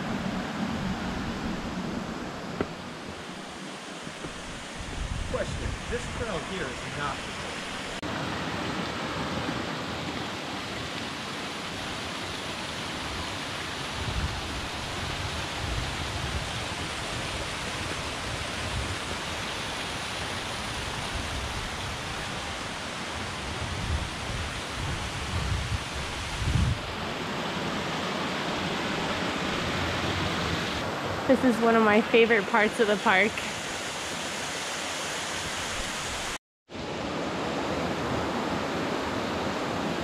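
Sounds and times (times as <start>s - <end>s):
waterfalls rushing into pools: 2.9s - 40.0s.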